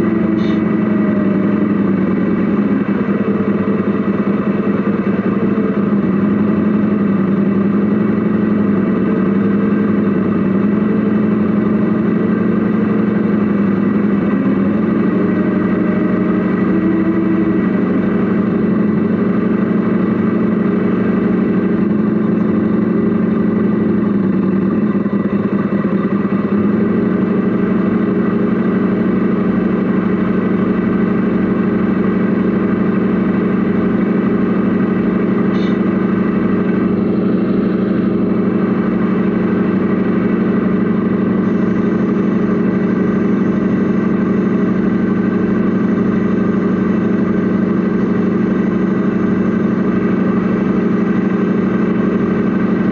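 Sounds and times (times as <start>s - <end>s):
model truck motor hum: 0.0s - 52.9s.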